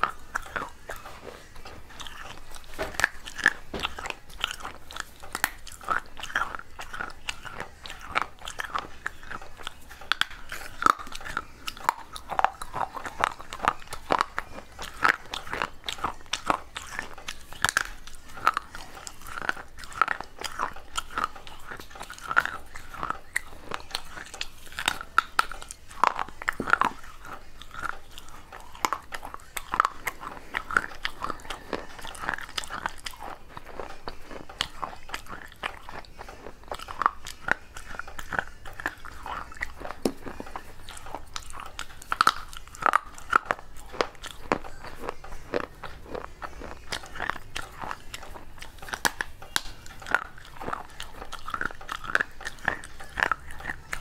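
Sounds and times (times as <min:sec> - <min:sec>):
clay pieces crunching when chewed: 0:00.0 - 0:54.0.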